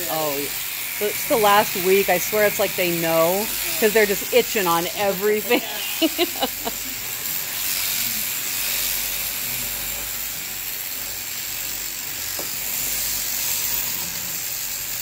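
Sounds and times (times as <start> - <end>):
electric shearing handpiece buzzing: 0.0 - 15.0.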